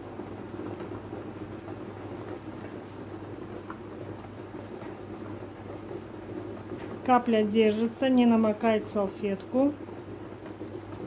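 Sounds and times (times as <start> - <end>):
jam bubbling in a pan: 0.0 - 11.0.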